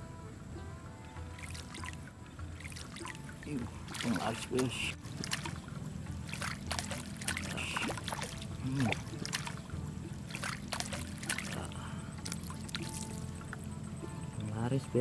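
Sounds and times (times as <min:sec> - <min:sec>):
low steady rumble: 0:00.0 - 0:15.0
water trickling: 0:00.5 - 0:15.0
small splashes: 0:01.1 - 0:15.0.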